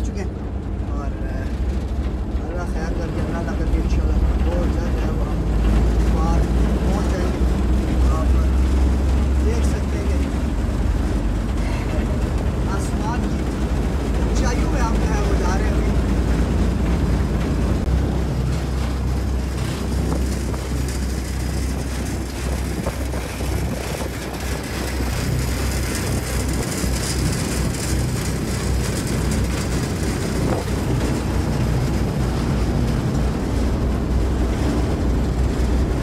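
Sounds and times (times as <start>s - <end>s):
cable car rumbling on cable: 0.0s - 36.0s
wind buffeting microphone: 0.0s - 36.0s
wind rushing: 5.3s - 36.0s.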